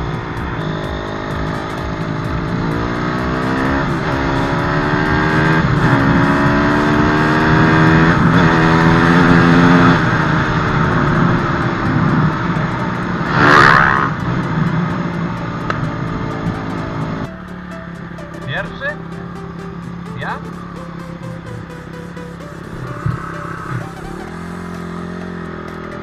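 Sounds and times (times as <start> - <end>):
dirt bike engine accelerating: 0.0 - 26.0.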